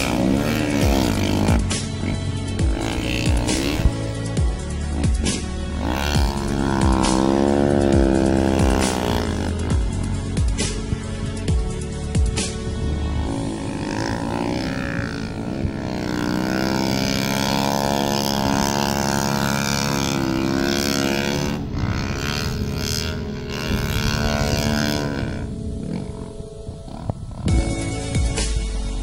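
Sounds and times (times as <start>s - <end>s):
snowbike engine revving: 0.0s - 27.9s.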